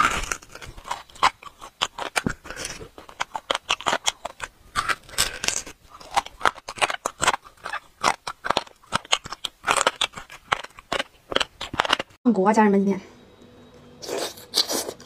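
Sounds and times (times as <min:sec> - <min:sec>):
wet chewing and smacking: 0:00.0 - 0:12.2.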